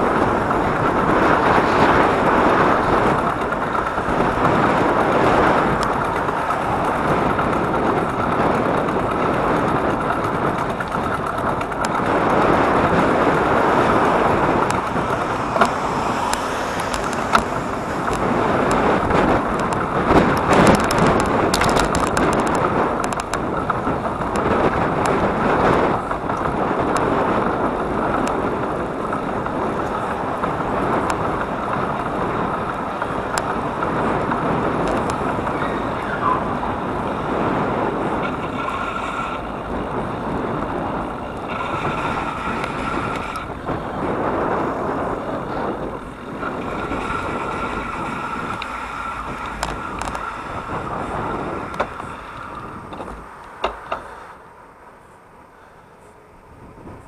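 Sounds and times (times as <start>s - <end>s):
rushing wind and road noise: 0.0s - 57.0s
wind buffeting microphone: 0.0s - 57.0s.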